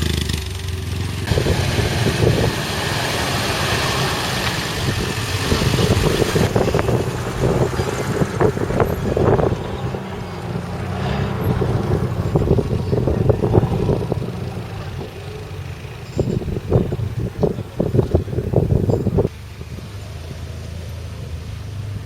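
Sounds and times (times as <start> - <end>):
off-road vehicle engine running: 0.0 - 22.0
knocks and clattering: 0.7 - 19.3.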